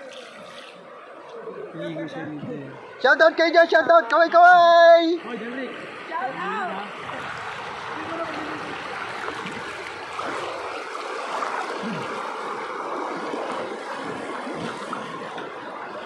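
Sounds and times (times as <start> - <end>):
river rapids roaring: 2.9 - 16.0.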